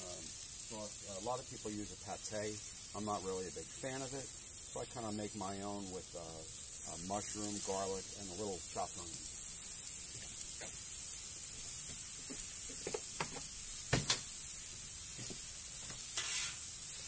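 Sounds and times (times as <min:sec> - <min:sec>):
vegetables sizzling on griddle: 0:00.0 - 0:17.0.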